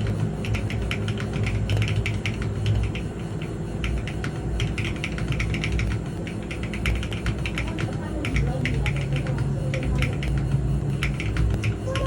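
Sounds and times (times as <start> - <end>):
mechanical keyboard typing: 0.0 - 12.0
steady low hum: 0.0 - 12.0.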